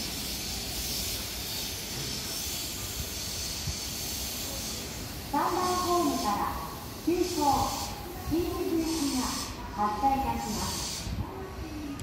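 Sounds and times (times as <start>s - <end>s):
electric train hiss and rumble: 0.0s - 12.0s.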